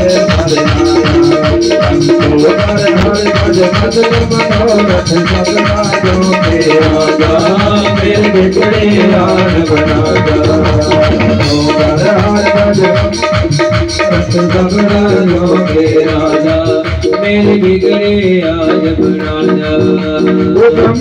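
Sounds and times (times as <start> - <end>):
electronic keyboard melody: 0.0 - 21.0
tabla: 0.0 - 21.0.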